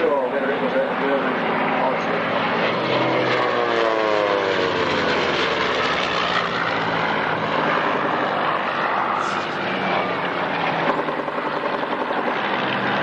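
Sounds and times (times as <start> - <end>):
aircraft engines droning overhead: 0.0 - 13.0
propeller aircraft passing: 0.0 - 13.0.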